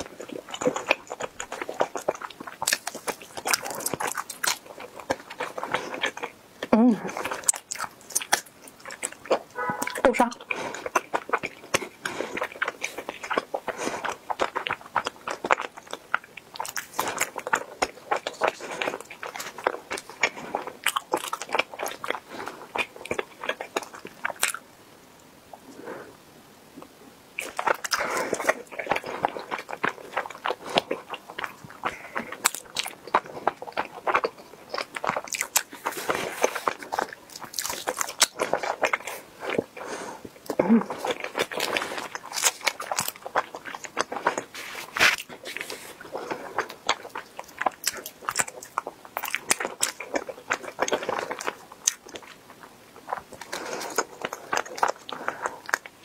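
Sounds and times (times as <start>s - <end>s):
chewing sticky rice cakes: 0.0s - 26.1s, 26.8s - 56.0s.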